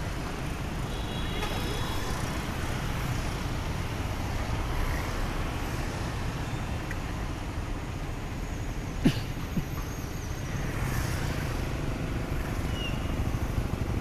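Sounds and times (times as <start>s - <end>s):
scooters and motorbikes passing: 0.0s - 8.1s, 8.8s - 14.0s.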